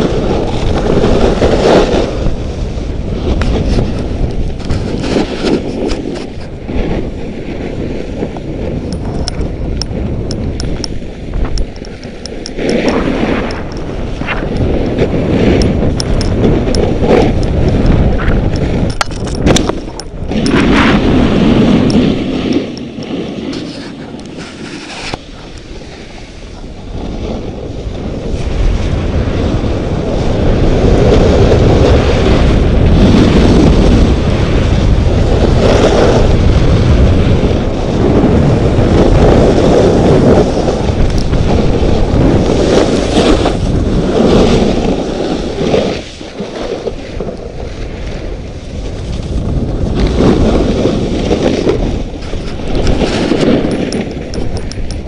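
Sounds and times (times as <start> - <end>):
skis scraping over snow: 0.0 - 55.0
wind buffeting microphone: 0.0 - 55.0.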